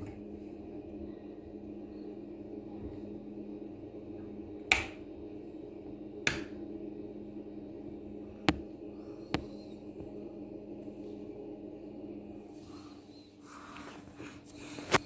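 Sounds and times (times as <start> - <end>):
egg incubator humming: 0.0 - 15.0.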